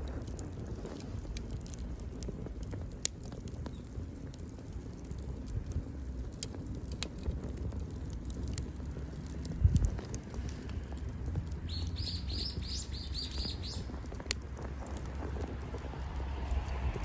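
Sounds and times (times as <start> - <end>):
campfire crackling: 0.0 - 17.0
sharp fire pops: 0.0 - 17.0.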